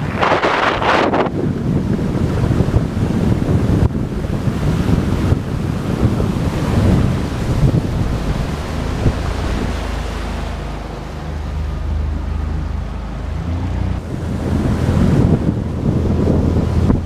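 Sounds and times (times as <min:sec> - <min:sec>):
outboard motor: 0:00.0 - 0:17.0
water rushing past hull: 0:00.0 - 0:17.0
wind buffeting microphone: 0:00.0 - 0:17.0.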